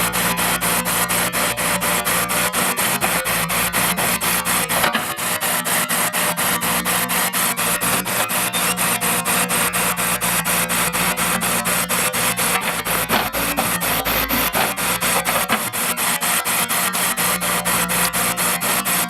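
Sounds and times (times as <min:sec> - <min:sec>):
diesel engine running: 0:00.0 - 0:19.0
rapid mechanical clatter: 0:00.0 - 0:19.0.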